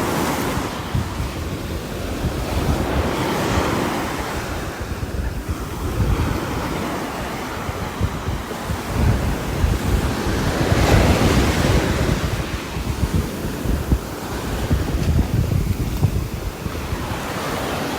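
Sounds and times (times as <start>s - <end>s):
strong gusting wind: 0.0s - 17.9s.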